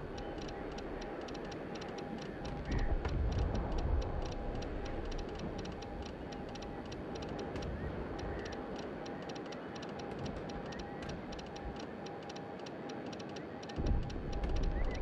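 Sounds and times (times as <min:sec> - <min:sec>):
telegraph clicks: 0:00.0 - 0:15.0.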